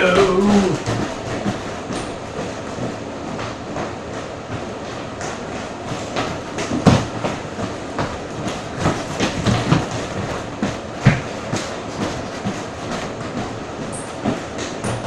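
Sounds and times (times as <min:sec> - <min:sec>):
people jumping on floor thumps: 0:00.0 - 0:15.0.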